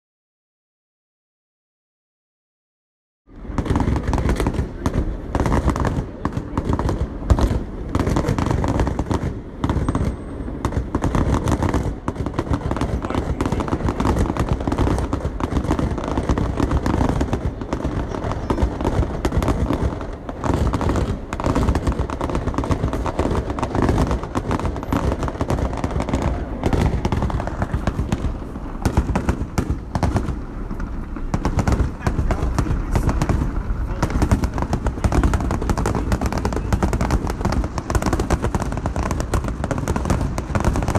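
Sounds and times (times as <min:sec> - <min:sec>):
fireworks bangs and crackles: 0:03.3 - 0:40.9.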